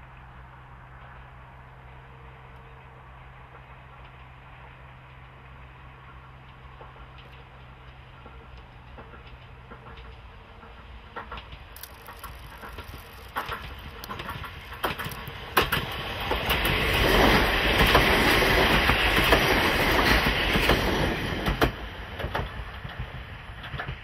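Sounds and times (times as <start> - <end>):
train passing with rushing wheels: 0.0 - 24.0
train wheels clacking over rail joints: 3.4 - 24.0.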